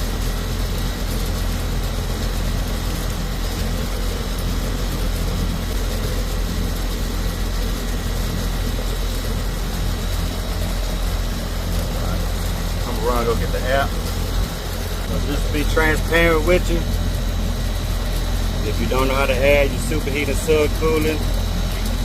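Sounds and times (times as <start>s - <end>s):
air conditioning unit humming: 0.0s - 22.0s
fan noise: 0.0s - 22.0s.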